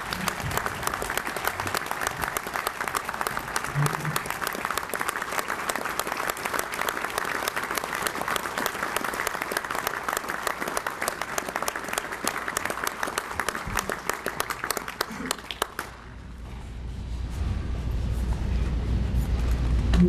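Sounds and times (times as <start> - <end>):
crowd applauding: 0.0 - 16.2.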